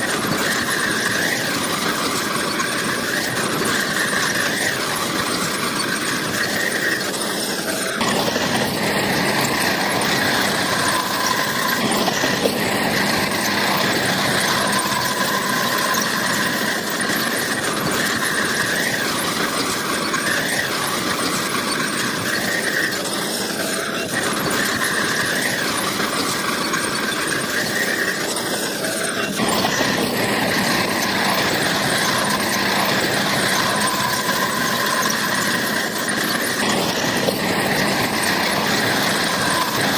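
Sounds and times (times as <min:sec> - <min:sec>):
bulldozer diesel engine: 0:00.0 - 0:39.9
crawler tracks squealing: 0:00.0 - 0:39.9.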